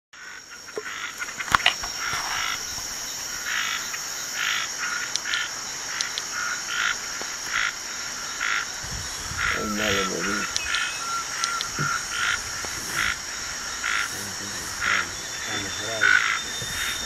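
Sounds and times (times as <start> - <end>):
frogs calling: 0.2 - 17.0
high insect drone: 0.2 - 17.0.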